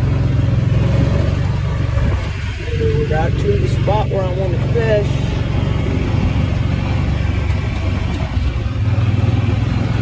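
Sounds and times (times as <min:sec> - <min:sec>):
utility vehicle engine humming: 0:00.0 - 0:10.0.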